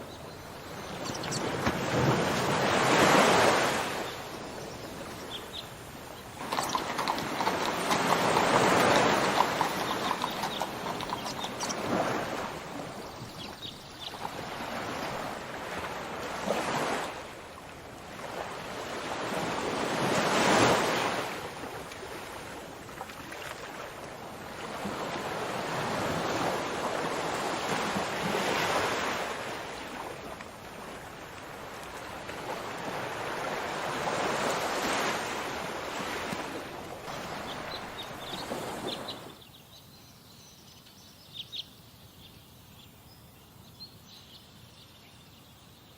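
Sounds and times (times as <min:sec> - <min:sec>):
sea waves washing onto shore: 0:00.0 - 0:39.3.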